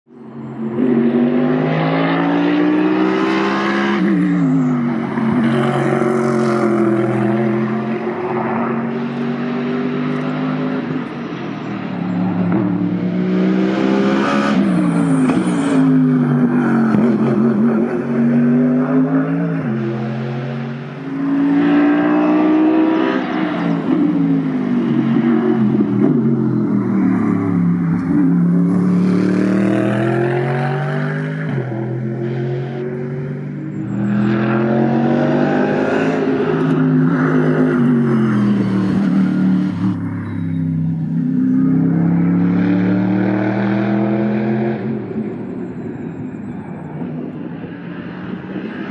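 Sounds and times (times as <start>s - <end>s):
race car engines accelerating: 0.1s - 48.9s.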